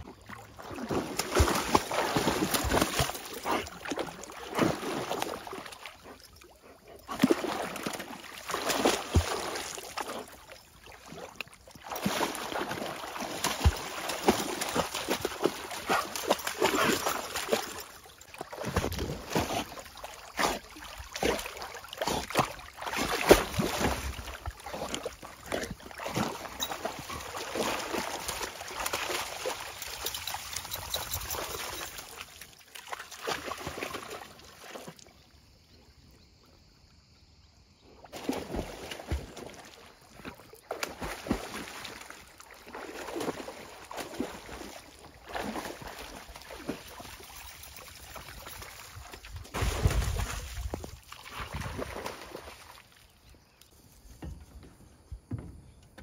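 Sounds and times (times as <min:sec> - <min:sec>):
dog splashing in water: 0:00.3 - 0:35.0, 0:38.2 - 0:53.1.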